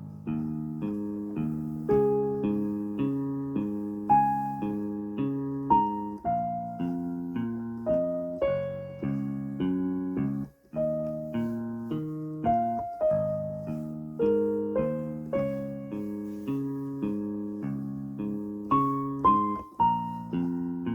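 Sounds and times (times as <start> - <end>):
low chord accompaniment: 0.0 - 20.9
piano melody on keyboard: 0.0 - 20.9.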